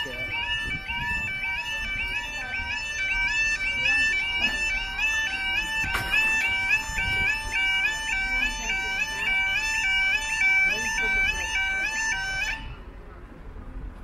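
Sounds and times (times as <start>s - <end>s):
two-tone crossing alarm: 0.0s - 12.8s.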